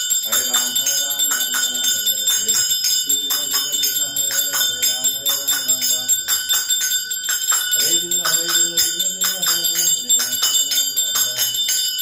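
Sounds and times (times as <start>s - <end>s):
hand bell ringing: 0.0s - 12.0s
voices singing: 0.0s - 12.0s.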